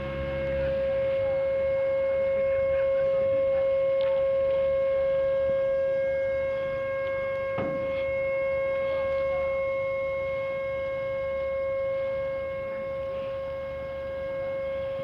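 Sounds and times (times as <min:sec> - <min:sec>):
trumpet-like drone: 0:00.0 - 0:15.0.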